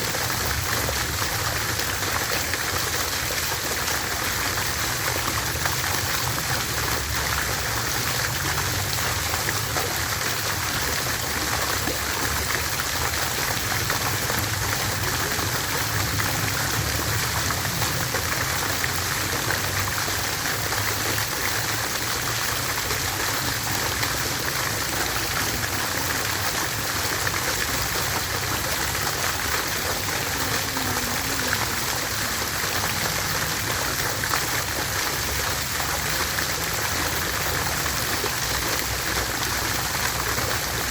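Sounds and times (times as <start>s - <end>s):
water fountain splashing: 0.0s - 40.9s.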